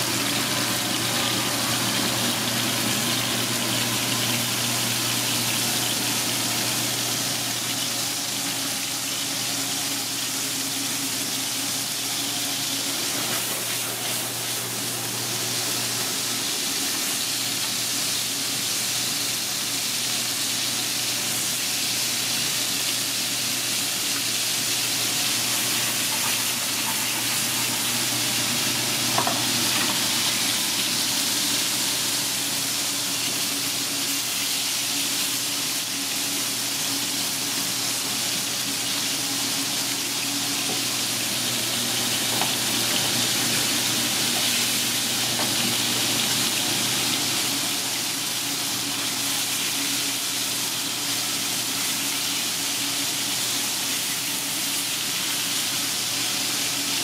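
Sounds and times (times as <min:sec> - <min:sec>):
meat sizzling in hot oil: 0:00.0 - 0:57.0.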